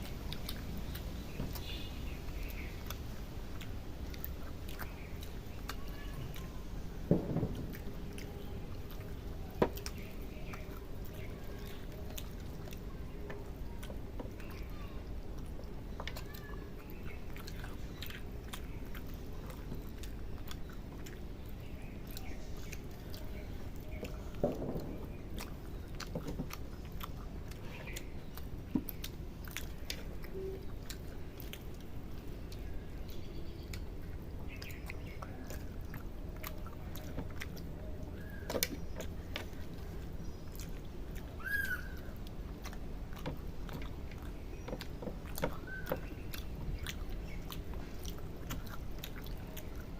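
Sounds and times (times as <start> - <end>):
people chewing food: 0.0 - 49.9.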